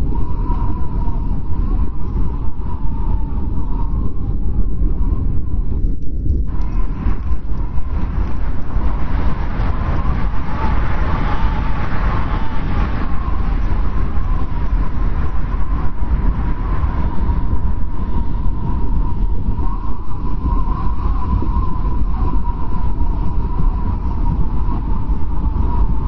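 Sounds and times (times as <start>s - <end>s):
blizzard wind rumbling: 0.0s - 26.0s
wind whistling howl: 0.0s - 26.0s.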